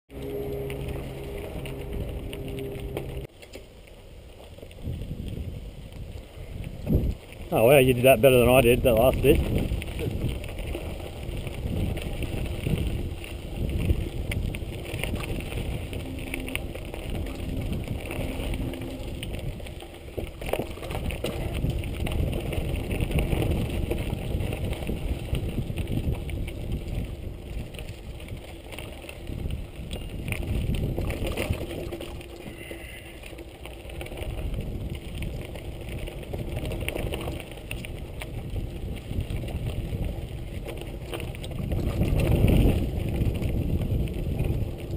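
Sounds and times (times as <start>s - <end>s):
bike rattling over bumps: 0.1s - 44.9s
tyres crunching over dirt and leaves: 0.1s - 44.9s
wind on microphone: 4.7s - 44.9s.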